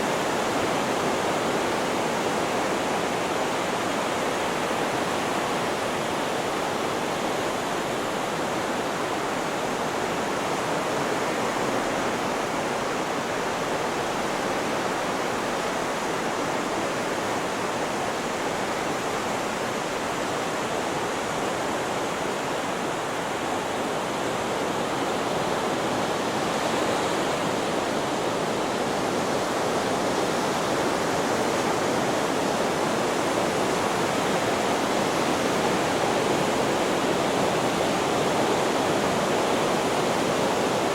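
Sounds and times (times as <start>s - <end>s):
steady rushing white noise: 0.0s - 40.9s.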